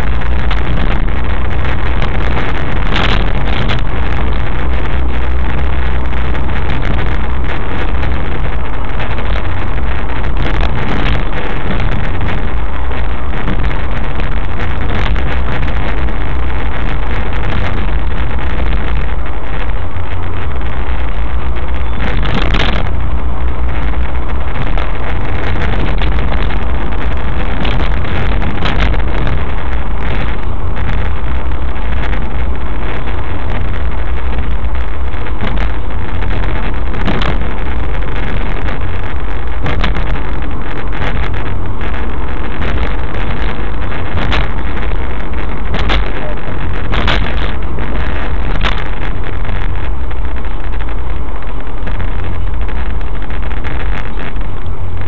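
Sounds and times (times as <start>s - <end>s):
bump: 0.0s - 55.0s
car engine and road noise: 0.0s - 55.0s.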